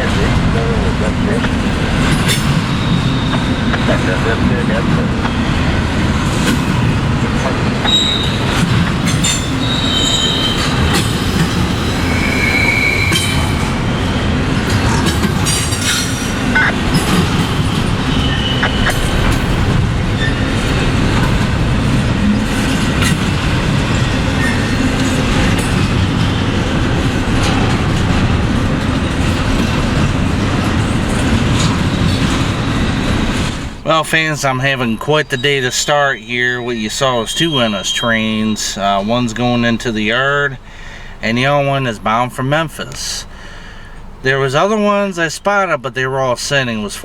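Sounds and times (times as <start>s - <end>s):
wheels clicking on rail: 0.0s - 41.3s
high wheel squeals: 0.0s - 41.6s
freight train rumbling past: 0.0s - 47.0s.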